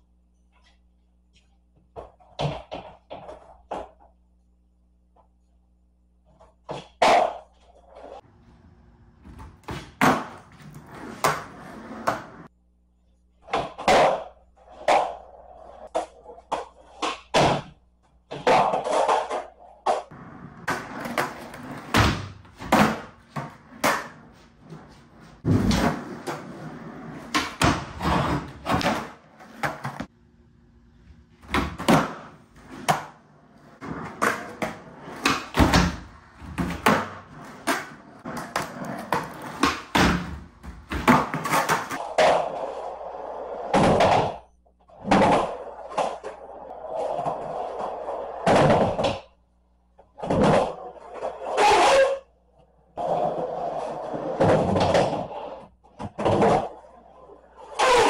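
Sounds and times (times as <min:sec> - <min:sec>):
skateboard wheels rolling on concrete: 0:00.5 - 0:04.2, 0:06.2 - 0:12.5, 0:13.4 - 0:30.2, 0:30.8 - 0:58.0.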